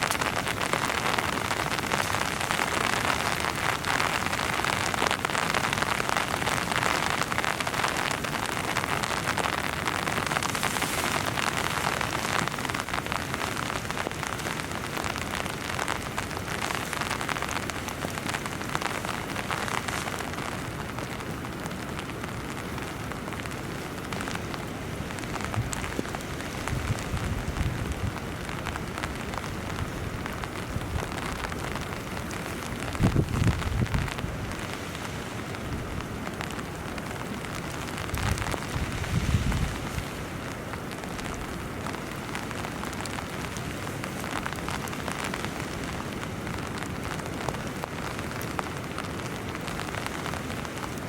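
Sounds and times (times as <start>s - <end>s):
heavy rain on tent fabric: 0.0s - 51.0s.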